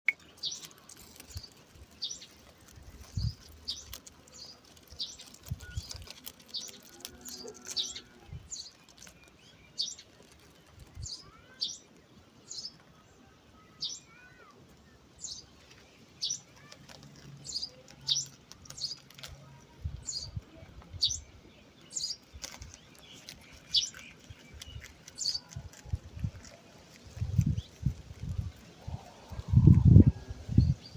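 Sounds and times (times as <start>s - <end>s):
small bird chirping: 0.1s - 12.9s, 13.6s - 30.9s
faint rustling: 0.2s - 13.0s, 14.3s - 30.9s.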